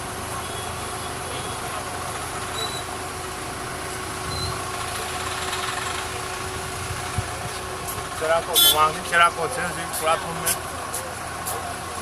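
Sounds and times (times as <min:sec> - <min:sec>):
engine-like machine drone: 0:00.0 - 0:12.0.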